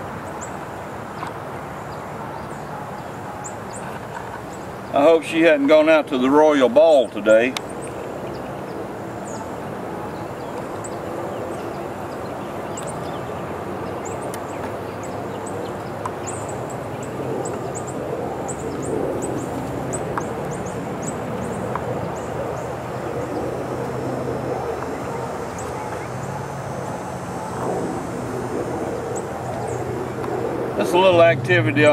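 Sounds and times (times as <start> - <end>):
bees buzzing: 5.0 - 31.9.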